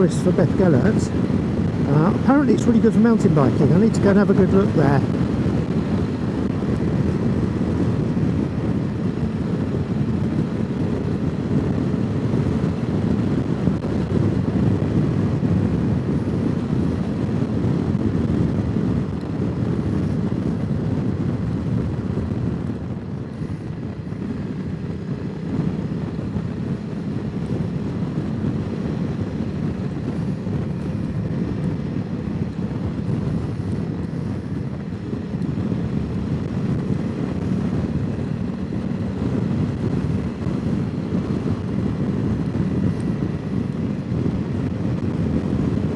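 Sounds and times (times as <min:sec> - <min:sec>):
motorcycle engine running: 0:00.0 - 0:45.9
wind noise on microphone: 0:00.0 - 0:45.9.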